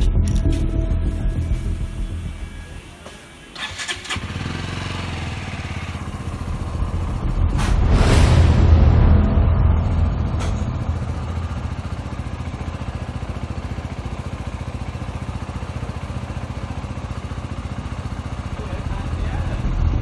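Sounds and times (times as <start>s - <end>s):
motorcycle engine idling: 0.0s - 7.5s, 10.5s - 20.0s.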